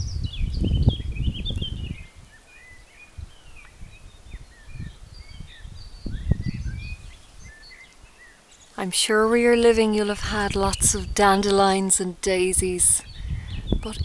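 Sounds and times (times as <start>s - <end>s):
wind buffeting microphone: 0.0s - 8.2s, 9.0s - 14.0s
birds chirping and trilling: 0.0s - 14.0s.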